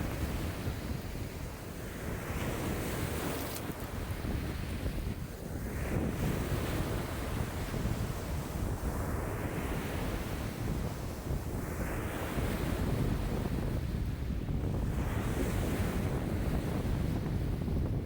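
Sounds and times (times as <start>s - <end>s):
lake waves washing on shore: 0.0s - 17.6s
wind buffeting microphone: 0.0s - 18.0s.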